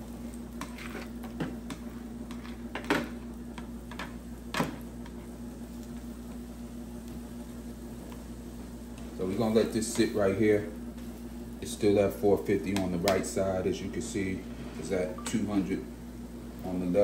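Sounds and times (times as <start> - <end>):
food frying: 0.0 - 17.0.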